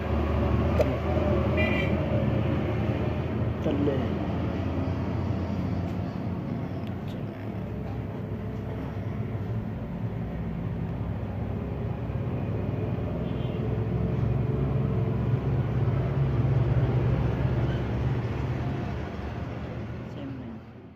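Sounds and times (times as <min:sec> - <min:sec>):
low mechanical rumble: 0:00.0 - 0:20.9.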